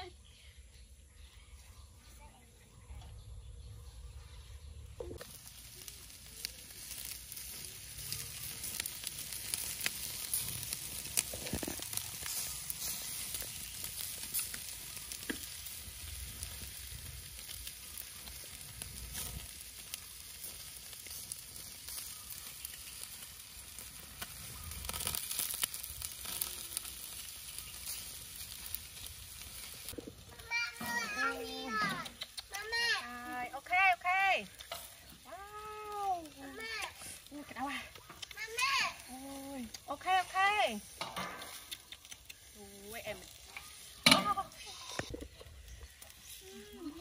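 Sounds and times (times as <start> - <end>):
skewers sizzling on grill: 3.2 - 47.0
charcoal crackles and pops: 5.0 - 47.0.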